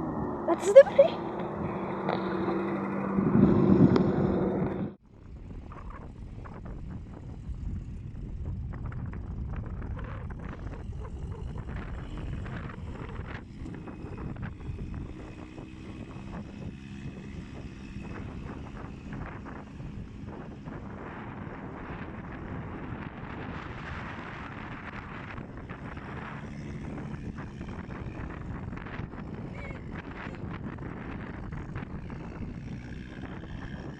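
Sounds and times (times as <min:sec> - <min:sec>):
engine running hard: 0:00.0 - 0:33.9
wind on microphone: 0:00.0 - 0:33.9.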